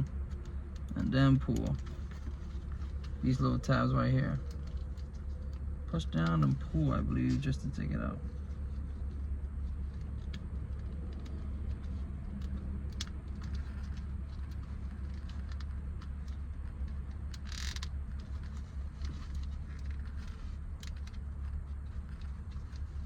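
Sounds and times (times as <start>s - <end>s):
scraping rustle: 0.0s - 7.6s, 8.2s - 23.0s
steady low hum: 0.0s - 23.0s.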